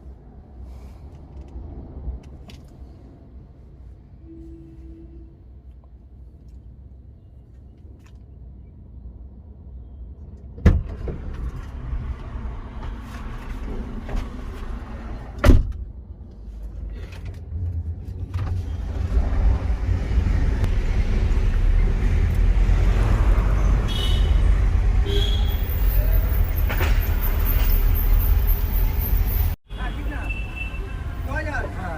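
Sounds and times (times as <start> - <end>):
car engine and road rumble: 0.0 - 31.9.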